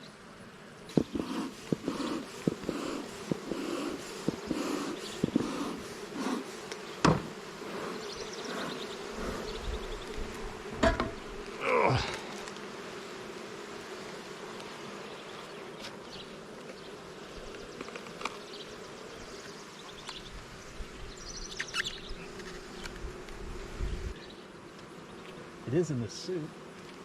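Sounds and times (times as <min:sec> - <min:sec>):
honey bees buzzing: 0:00.0 - 0:27.0.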